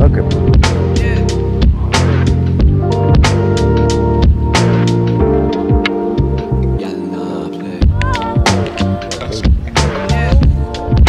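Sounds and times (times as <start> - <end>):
music with drums and bass: 0.0 - 6.8, 7.8 - 11.0.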